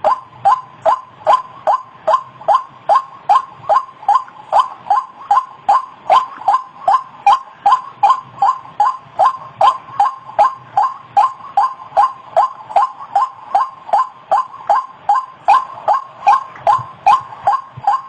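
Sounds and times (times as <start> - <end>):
bird calling repeated note: 0.0 - 18.0.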